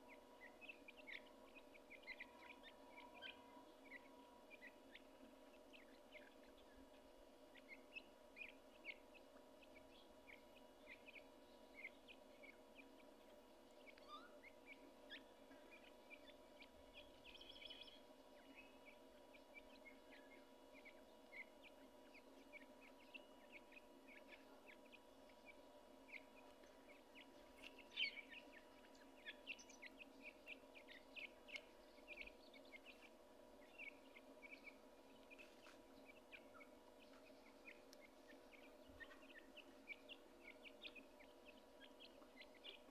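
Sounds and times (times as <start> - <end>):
chicks cheeping: 0.0 - 42.9
faint steady hum: 0.0 - 42.9.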